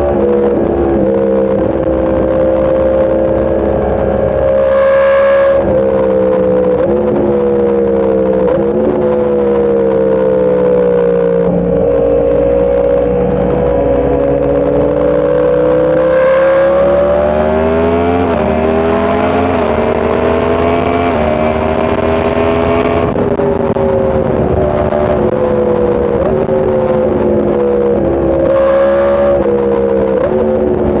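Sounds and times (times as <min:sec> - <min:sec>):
low rush of wind: 0:00.0 - 0:31.0
motorcycle engine accelerating: 0:00.0 - 0:31.0.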